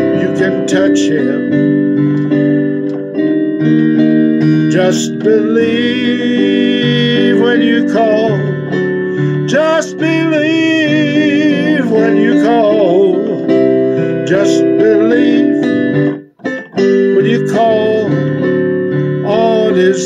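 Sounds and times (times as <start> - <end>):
person singing with vibrato: 0.0 - 2.6, 3.6 - 20.0
plucked strings: 0.0 - 20.0
sustained keyboard chords: 0.0 - 20.0.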